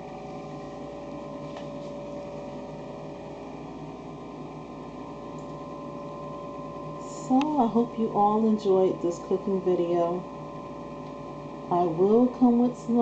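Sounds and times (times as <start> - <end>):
indoor hum and hiss: 0.0 - 13.0.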